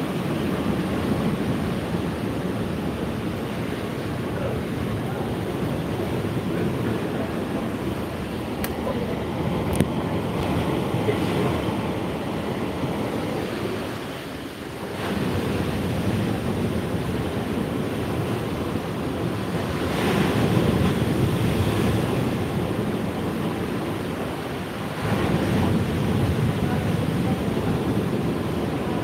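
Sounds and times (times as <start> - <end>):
waves breaking on beach: 0.0 - 29.0.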